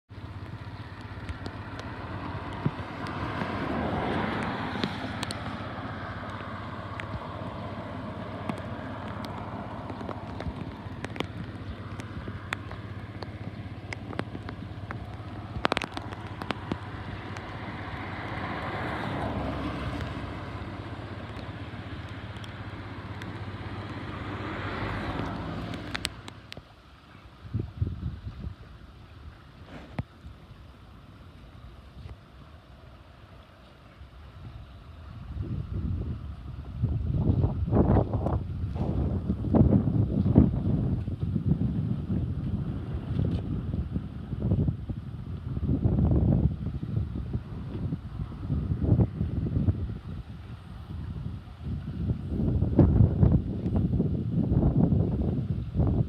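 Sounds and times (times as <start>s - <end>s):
steady traffic rumble: 0.0s - 56.0s
cars passing by: 0.1s - 56.0s.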